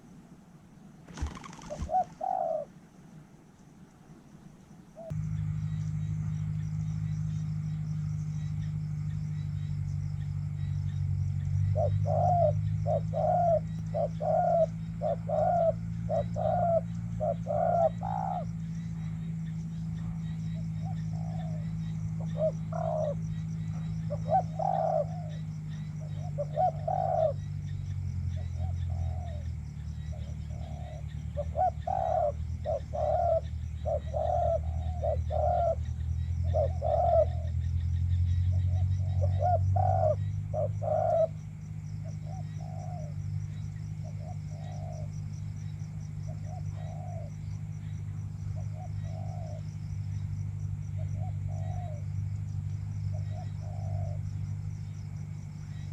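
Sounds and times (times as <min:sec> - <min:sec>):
steady low hum: 0:00.0 - 0:55.9
doves cooing: 0:01.0 - 0:03.0, 0:05.0 - 0:55.9.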